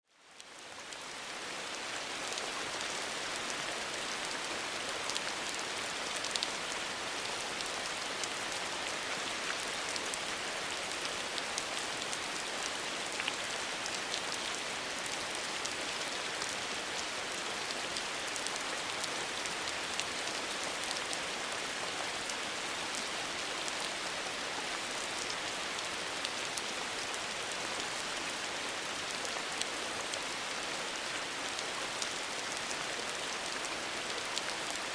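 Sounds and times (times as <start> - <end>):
rain falling from roof eaves: 0.1 - 34.9.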